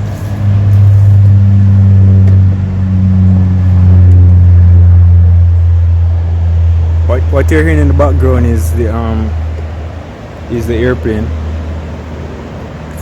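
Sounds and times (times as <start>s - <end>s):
airplane engines rumbling: 0.0s - 13.0s.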